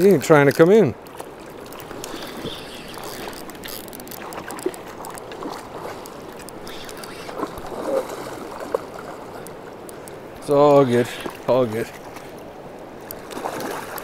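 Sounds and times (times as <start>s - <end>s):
river water running over gravel: 0.0s - 14.0s.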